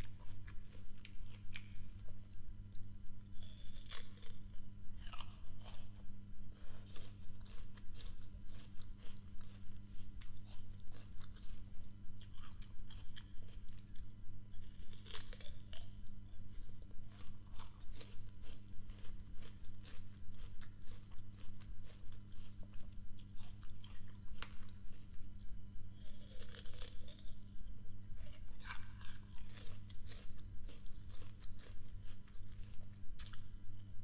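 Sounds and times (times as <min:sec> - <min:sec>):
chewing crisp fruit: 0:00.0 - 0:34.0
low hum: 0:00.0 - 0:34.0.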